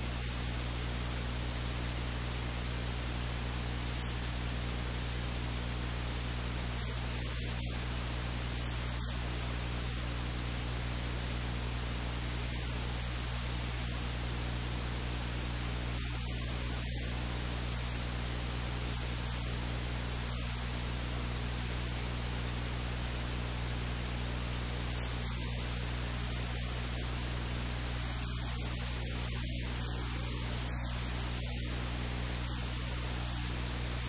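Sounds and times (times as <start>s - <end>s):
low electrical hum: 0.0s - 34.0s
static hiss: 0.0s - 34.0s.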